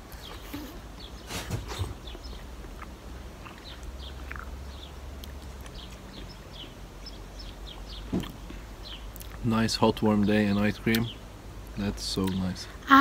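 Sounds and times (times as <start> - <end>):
small birds chirping: 0.0 - 12.9
low outdoor hum: 0.0 - 13.0.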